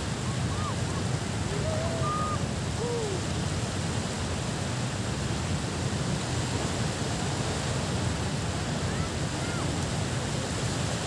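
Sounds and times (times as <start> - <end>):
distant surf: 0.0 - 11.0.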